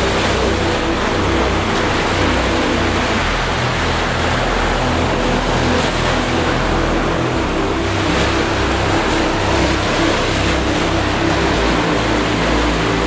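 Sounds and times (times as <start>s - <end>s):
soft music with low chords: 0.0s - 13.0s
waves breaking on beach: 0.0s - 13.0s.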